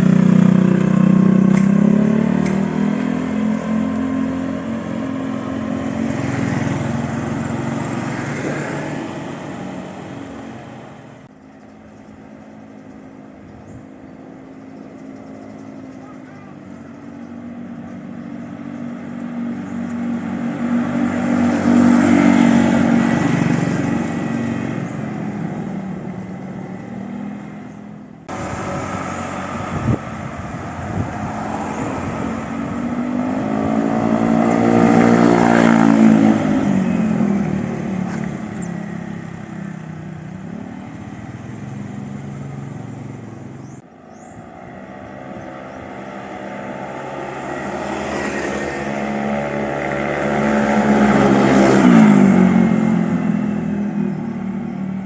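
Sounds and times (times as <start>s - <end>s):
scooter engine exhaust: 0.0s - 55.0s.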